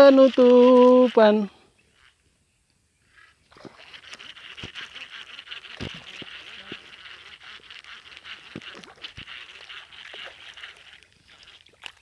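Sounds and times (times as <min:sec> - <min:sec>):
fishing rod and reel clicks: 0:00.0 - 0:02.2, 0:03.0 - 0:12.0.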